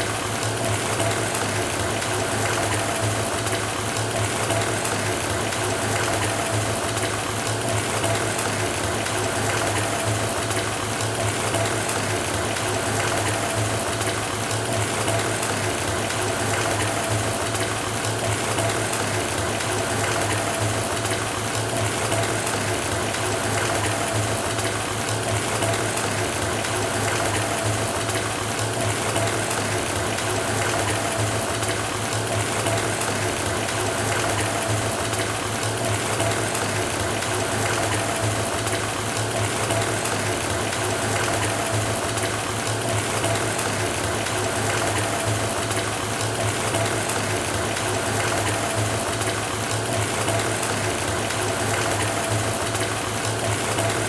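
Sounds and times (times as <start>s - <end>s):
water running into bathtub: 0.0s - 54.0s.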